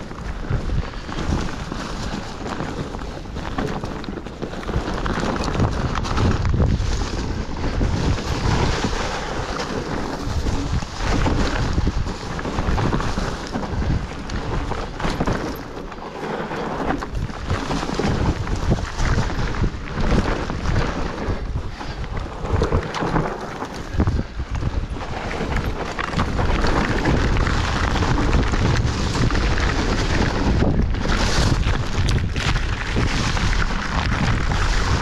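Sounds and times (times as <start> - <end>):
bike clicks and rattles: 0.0 - 35.0
bike tyre noise on dirt: 0.0 - 35.0
wind buffeting microphone: 0.0 - 35.0.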